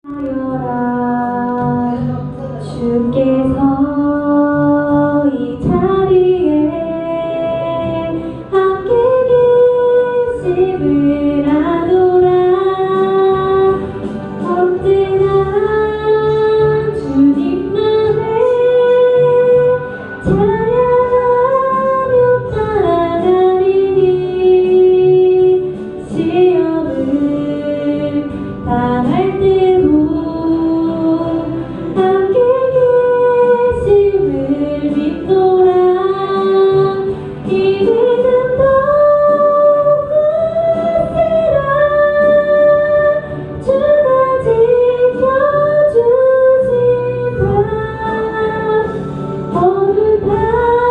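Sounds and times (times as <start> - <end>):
woman singing slow melody: 0.1 - 50.9.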